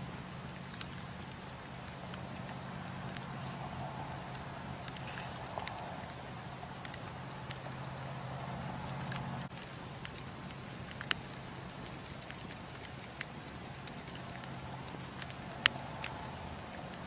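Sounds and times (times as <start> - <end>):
burning logs popping: 0.0 - 17.0
campfire flames rumbling and hissing: 0.0 - 17.0.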